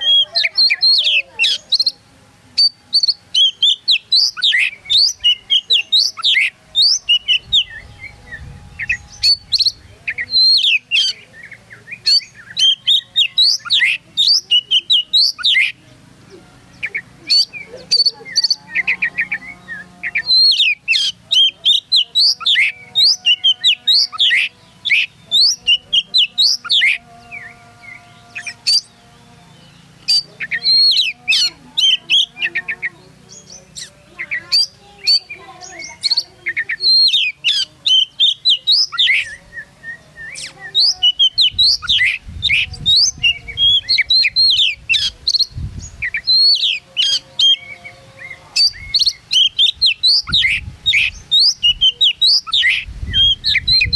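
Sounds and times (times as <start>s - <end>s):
bird singing: 0.0s - 53.9s.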